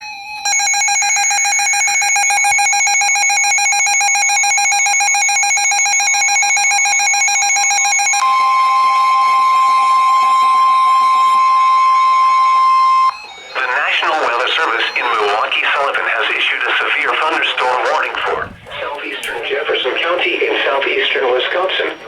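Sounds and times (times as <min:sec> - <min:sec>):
pulsing electronic alarm beep: 0:00.0 - 0:18.5
steady alarm tone: 0:00.0 - 0:22.0.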